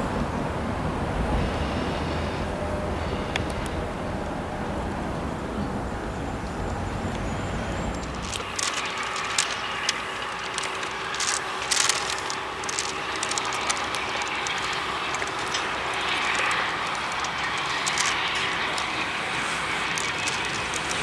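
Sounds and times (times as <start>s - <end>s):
rail clicks and rattles: 0.0s - 21.0s
train rumbling on rails: 0.0s - 21.0s.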